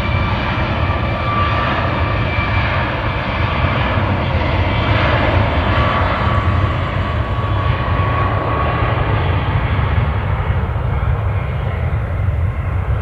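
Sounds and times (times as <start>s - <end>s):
faint jet whine: 0.0s - 13.0s
jet engine rumble: 0.0s - 13.0s.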